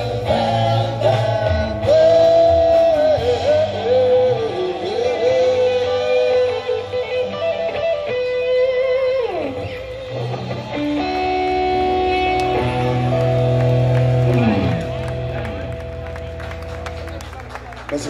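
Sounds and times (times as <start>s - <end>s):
electric guitar lead note: 0.0s - 17.2s
live band music: 0.0s - 18.0s.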